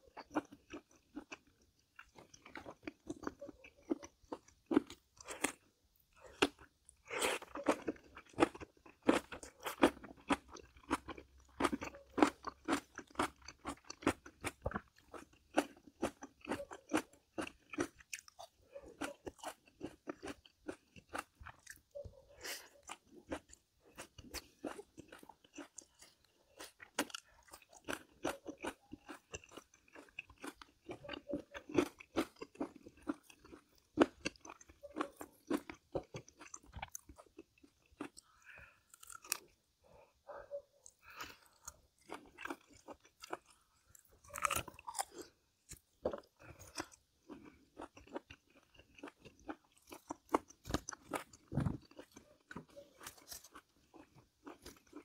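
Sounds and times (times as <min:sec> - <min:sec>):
person chewing and crunching food: 0:00.0 - 0:55.0.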